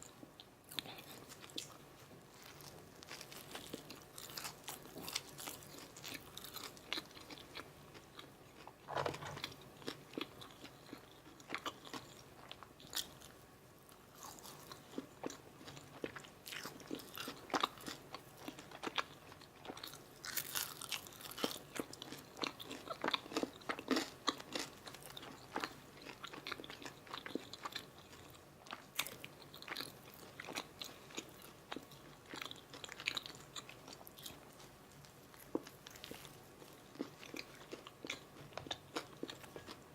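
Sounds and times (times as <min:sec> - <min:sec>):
crunchy chewing: 0:00.0 - 0:13.4, 0:14.2 - 0:39.9.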